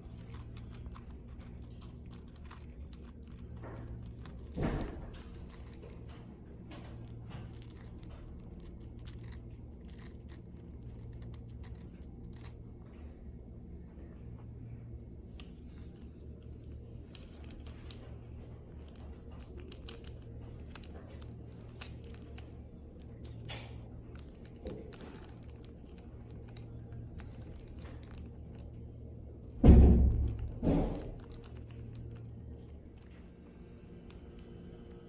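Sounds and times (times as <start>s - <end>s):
small clicks and metallic rattles: 0.0s - 13.0s, 15.4s - 35.0s.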